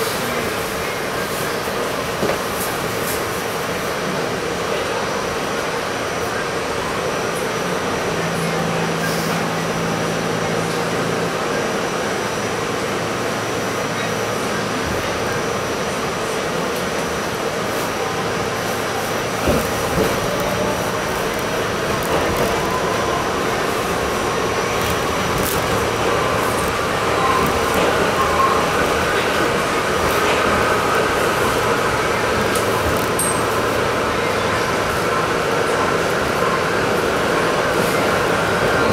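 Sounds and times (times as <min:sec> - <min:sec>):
subway wheels rumbling on rail: 0:00.0 - 0:38.9.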